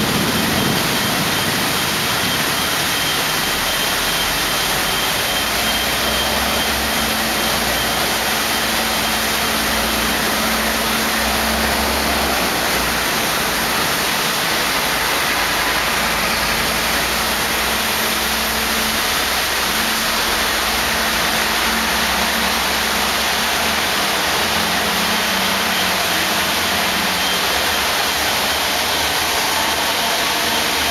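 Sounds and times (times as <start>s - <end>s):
heavy rain: 0.0s - 30.9s
wind: 0.0s - 30.9s.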